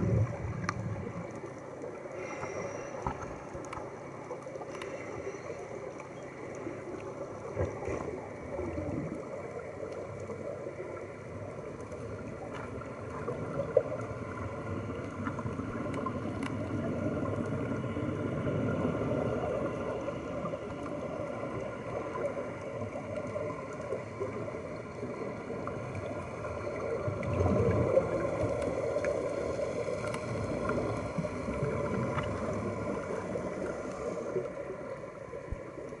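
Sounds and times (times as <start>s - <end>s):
muffled underwater rush: 0.0s - 36.0s.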